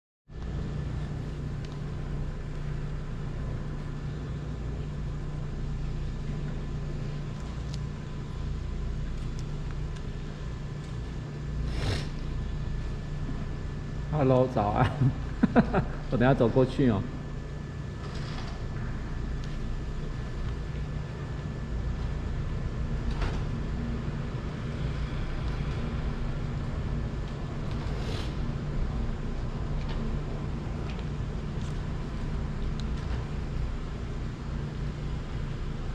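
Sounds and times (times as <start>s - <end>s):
low outdoor rumble: 0.3s - 35.9s.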